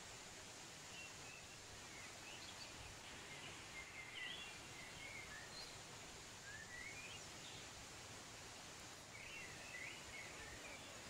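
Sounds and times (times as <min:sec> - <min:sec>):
small birds chirping: 0:00.9 - 0:07.8, 0:09.0 - 0:11.0.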